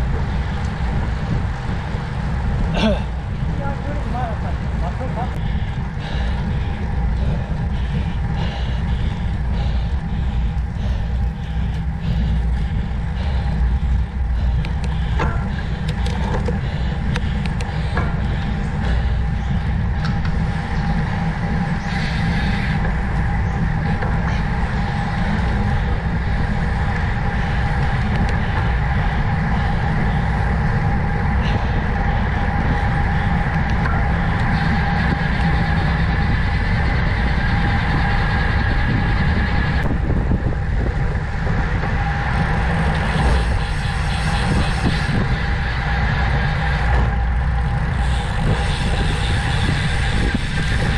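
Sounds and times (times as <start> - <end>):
road and tyre hum: 0.0 - 50.9
wind buffeting microphone: 0.0 - 50.9.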